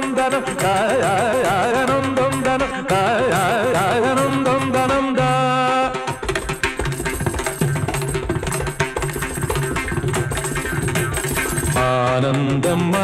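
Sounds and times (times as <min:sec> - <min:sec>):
fast hand-drum strokes: 0:00.0 - 0:13.0.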